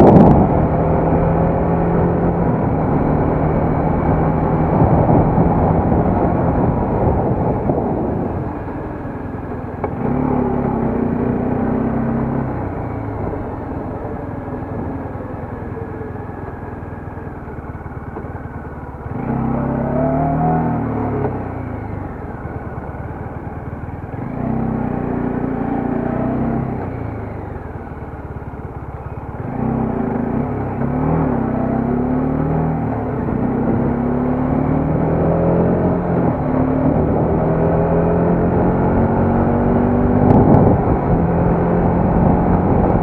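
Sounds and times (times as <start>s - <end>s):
motorcycle engine revving: 0.0s - 43.0s
wind and road noise: 0.0s - 43.0s.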